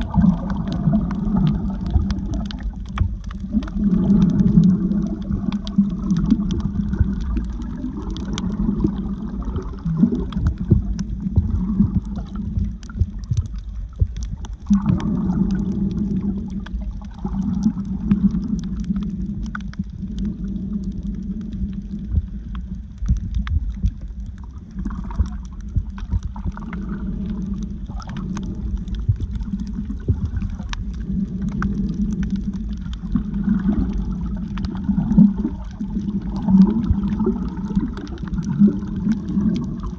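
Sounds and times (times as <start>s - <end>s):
faint crackling clicks: 0.0s - 39.9s
underwater rumble and gurgling: 0.0s - 39.9s.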